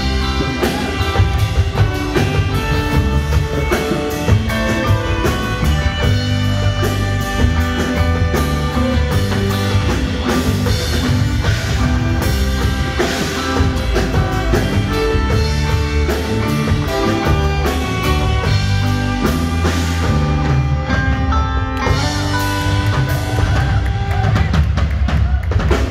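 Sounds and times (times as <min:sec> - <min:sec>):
drum kit: 0:00.0 - 0:25.9
guitars: 0:00.0 - 0:25.9.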